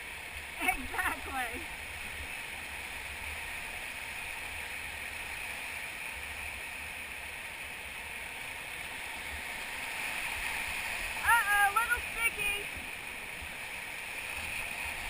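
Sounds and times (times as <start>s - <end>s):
river whitewater rushing: 0.0s - 15.0s.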